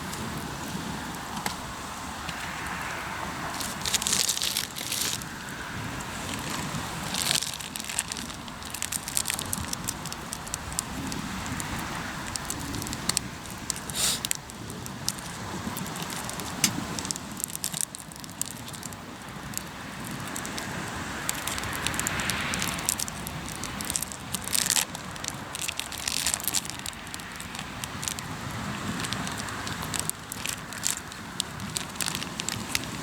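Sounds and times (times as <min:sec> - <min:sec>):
campfire logs crackling: 0:00.0 - 0:33.0.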